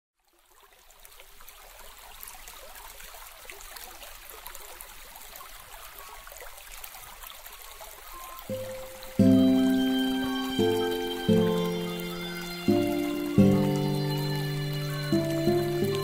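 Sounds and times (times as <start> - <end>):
water trickling with crackles: 0.2 - 16.0.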